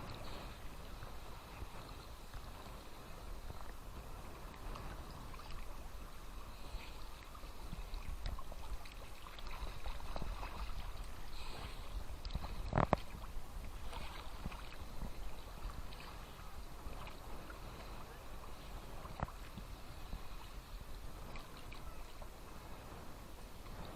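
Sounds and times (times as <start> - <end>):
water crackling: 0.0 - 23.0
small waves lapping at shore: 0.0 - 23.9.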